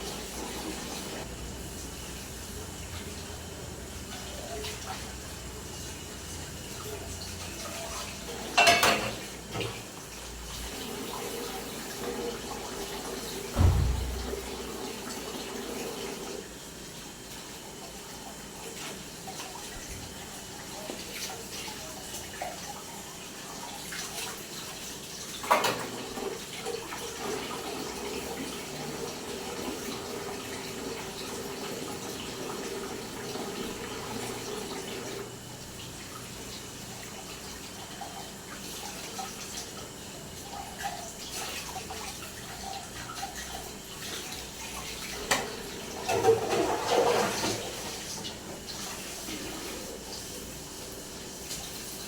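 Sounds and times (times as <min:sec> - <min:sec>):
tap water running into sink: 0:00.0 - 0:16.6, 0:17.3 - 0:52.0.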